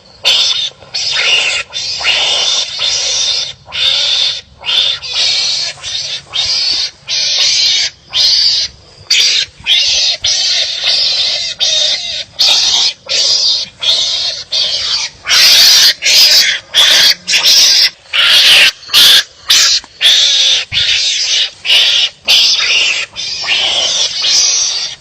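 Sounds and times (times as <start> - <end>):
animal harsh rasping calls: 0.2 - 25.0.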